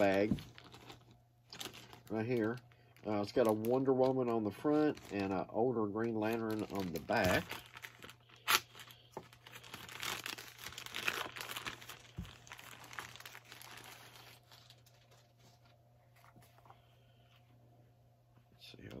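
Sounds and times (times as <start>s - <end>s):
plastic bag crinkling and tearing: 0.0s - 16.3s.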